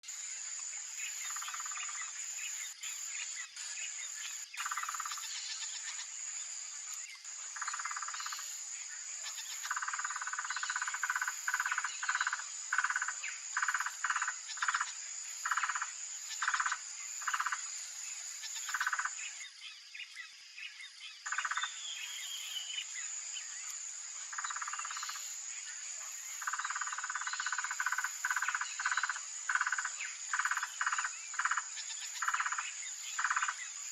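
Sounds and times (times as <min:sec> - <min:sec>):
high-pitched insect drone: 0:00.0 - 0:20.2, 0:21.2 - 0:33.9.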